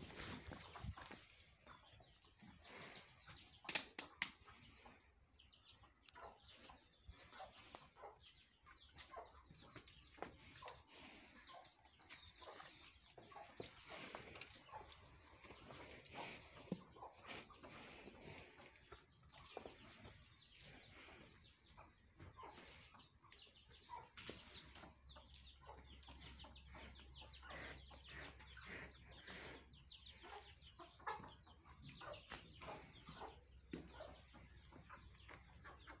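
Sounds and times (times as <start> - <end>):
farmyard birds chirping: 0.0 - 36.0.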